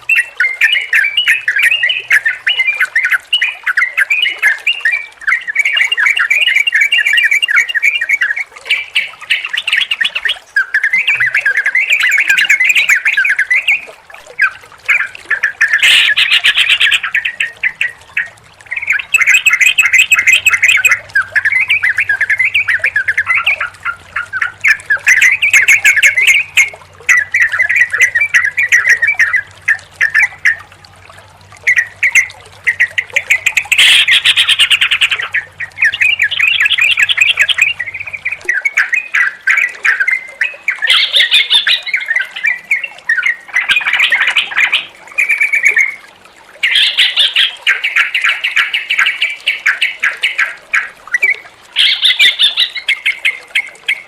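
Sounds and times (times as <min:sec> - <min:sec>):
bulbuls singing: 0:00.0 - 0:54.0.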